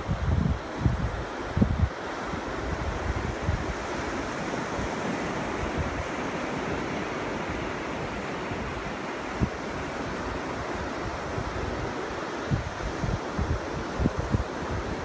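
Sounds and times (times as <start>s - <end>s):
ocean surf breaking: 0.0s - 15.0s
wind gusting on microphone: 0.0s - 15.0s.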